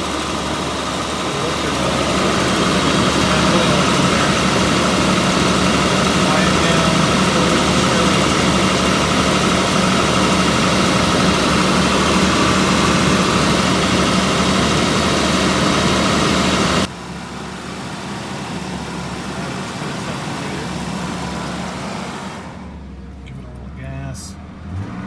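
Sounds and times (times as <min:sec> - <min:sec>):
car engine idling unevenly: 0:00.0 - 0:25.0.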